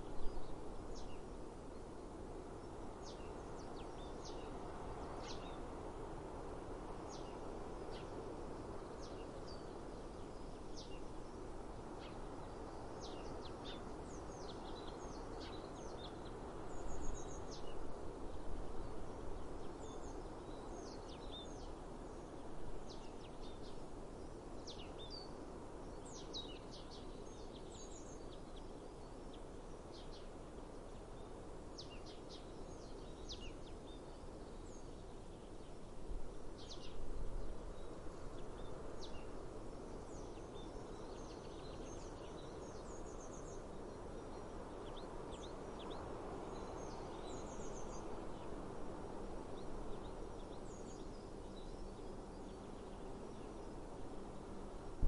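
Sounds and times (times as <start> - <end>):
outdoor background hiss: 0.0 - 55.0
small birds chirping: 0.0 - 55.0.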